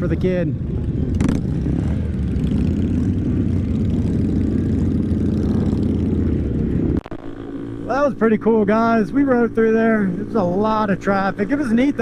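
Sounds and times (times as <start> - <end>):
motorcycle engine rumbling: 0.0 - 12.0
road and wind noise: 0.0 - 12.0.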